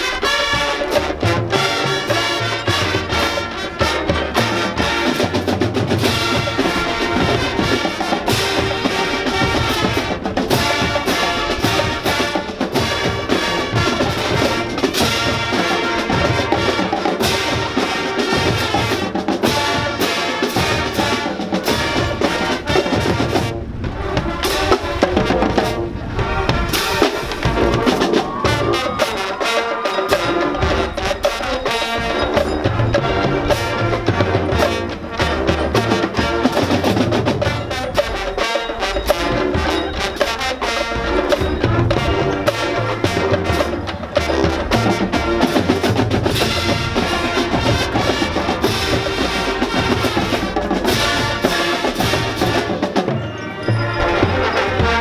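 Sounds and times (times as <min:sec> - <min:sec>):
drumline drumming: 0:00.0 - 0:55.0
marching band brass: 0:00.0 - 0:55.0.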